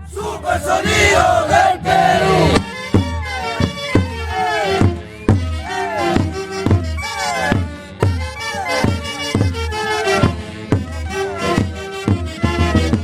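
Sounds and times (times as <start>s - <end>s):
reedy wind instruments: 0.0s - 4.8s, 5.6s - 12.4s.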